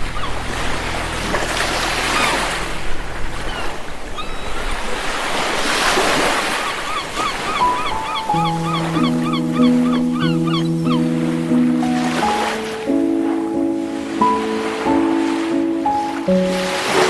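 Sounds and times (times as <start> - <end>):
sea surf washing onto beach: 0.0 - 17.0.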